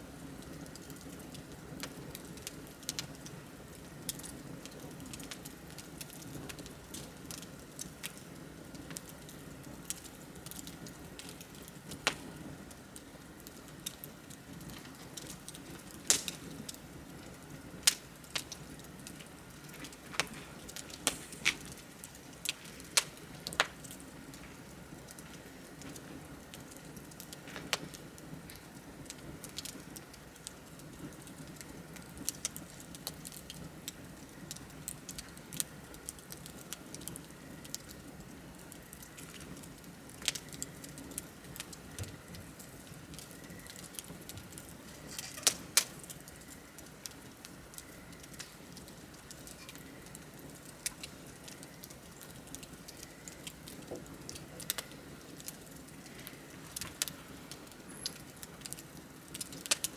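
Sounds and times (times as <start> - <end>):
low hiss of burning: 0.0 - 59.9
wood fire crackling: 0.0 - 59.9
sharp pops of fire: 0.4 - 38.0, 38.8 - 59.9.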